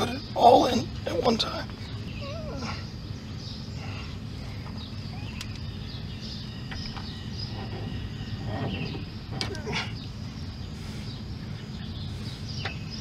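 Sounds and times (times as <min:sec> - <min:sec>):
faint bird chirps: 0:00.0 - 0:13.0
steady low rumble: 0:00.0 - 0:13.0.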